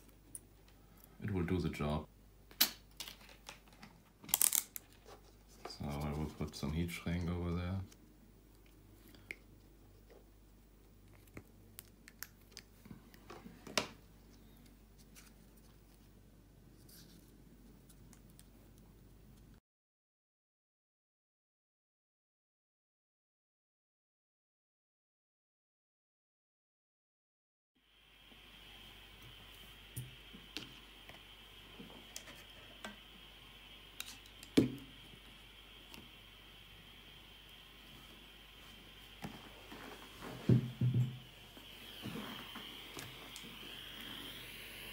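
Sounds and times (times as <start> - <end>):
faint steady hum: 0.0 - 19.6, 27.8 - 44.9.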